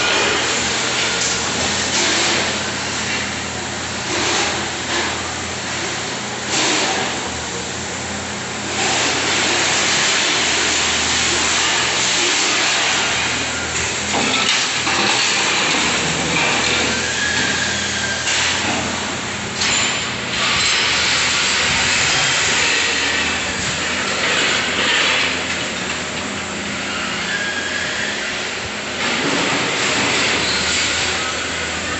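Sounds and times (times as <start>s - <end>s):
factory machinery noise: 0.0s - 31.9s.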